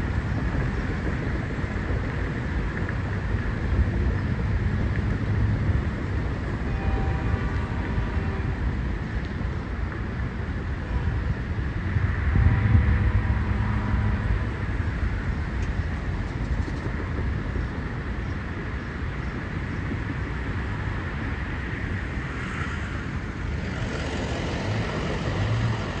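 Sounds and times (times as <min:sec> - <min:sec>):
freight train rumbling: 0:00.0 - 0:26.0
street traffic: 0:00.0 - 0:26.0.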